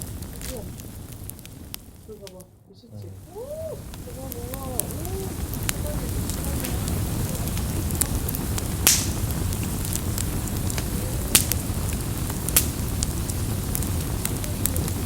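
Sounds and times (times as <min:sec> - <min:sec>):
burning wood popping: 0:00.0 - 0:15.0
campfire flames rumbling and hissing: 0:00.0 - 0:15.0
small crackles of fire: 0:00.0 - 0:15.0.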